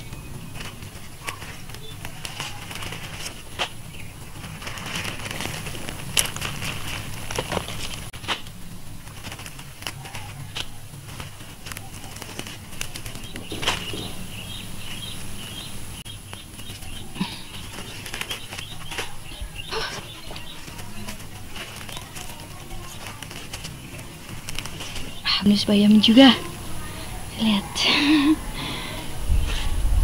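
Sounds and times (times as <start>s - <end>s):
handling clicks and crackles: 0.0s - 27.3s
soil crumbling: 0.0s - 29.0s
leaves and stems rustling: 0.0s - 30.0s.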